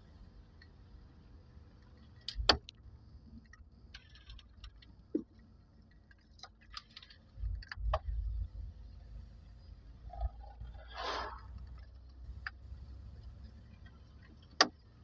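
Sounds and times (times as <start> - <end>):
low rumbling handling noise: 1.8 - 15.0.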